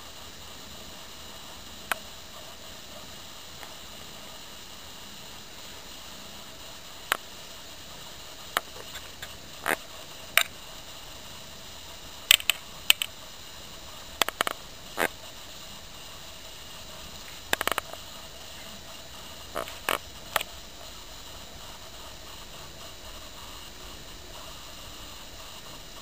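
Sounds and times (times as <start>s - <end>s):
microphone hiss: 0.0s - 26.0s.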